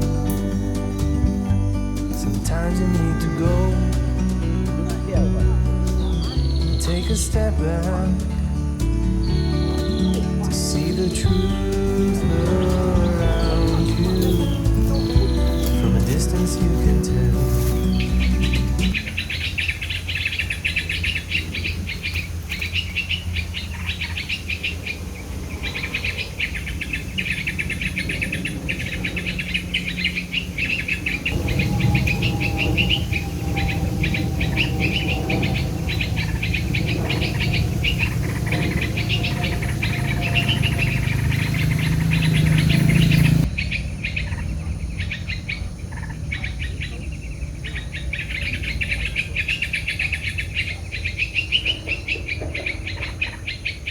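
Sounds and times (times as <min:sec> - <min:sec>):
low outdoor rumble: 0:00.0 - 0:53.9
small birds chirping: 0:00.0 - 0:53.9.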